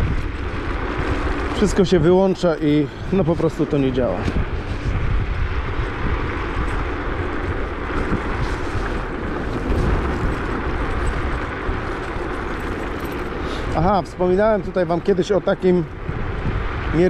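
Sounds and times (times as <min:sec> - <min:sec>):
wind and road noise rushing: 0:00.0 - 0:17.0.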